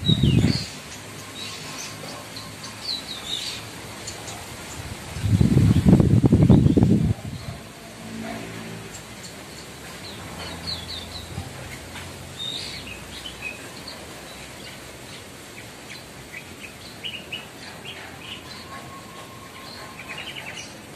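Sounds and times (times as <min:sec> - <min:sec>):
bird chirping: 0:00.0 - 0:04.9, 0:08.8 - 0:20.9.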